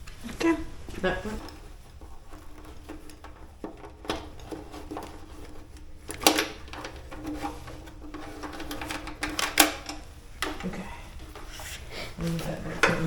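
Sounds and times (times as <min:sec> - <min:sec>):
tools clicking and knocking: 0:00.9 - 0:11.9.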